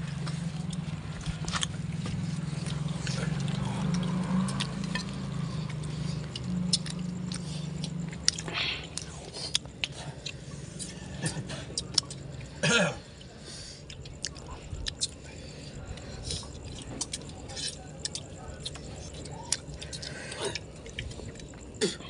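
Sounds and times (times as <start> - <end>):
people chewing: 0.0 - 22.0
steady low hum: 0.0 - 22.0.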